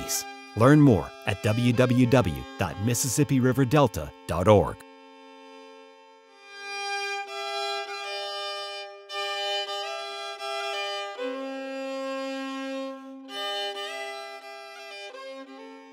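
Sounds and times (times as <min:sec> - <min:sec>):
slow instrumental melody: 0:00.0 - 0:15.9.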